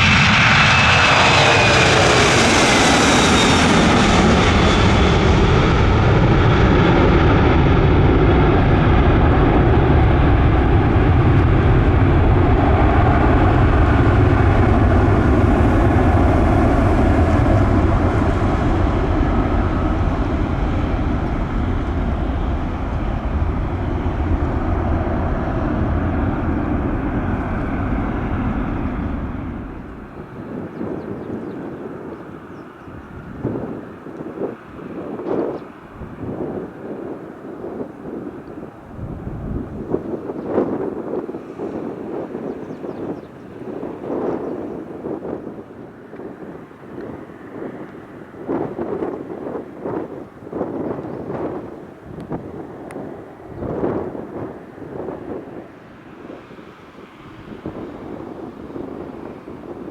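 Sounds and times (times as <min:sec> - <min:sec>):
jet engines roaring past: 0:00.0 - 0:59.9.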